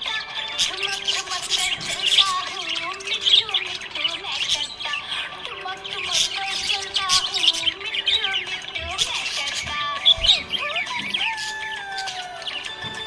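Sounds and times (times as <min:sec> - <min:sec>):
parrots chirping and chattering: 0:00.0 - 0:13.0
repeating background melody: 0:00.0 - 0:13.0.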